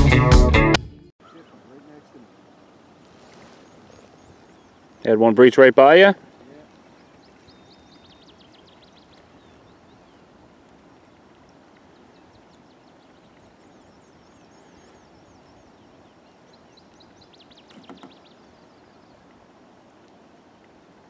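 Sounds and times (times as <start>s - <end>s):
faint songbirds singing: 1.2s - 21.0s
soft outdoor hiss: 1.2s - 21.0s.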